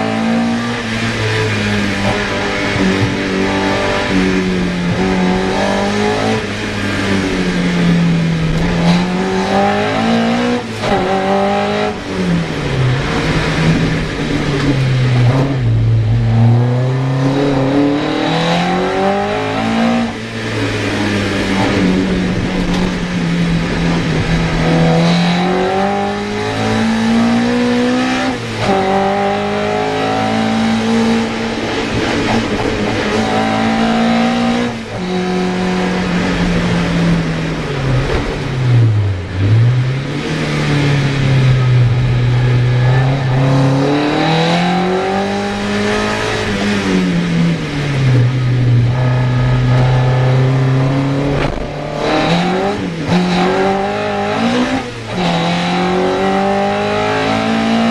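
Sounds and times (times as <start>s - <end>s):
car engine revving through gears: 0.0s - 57.9s.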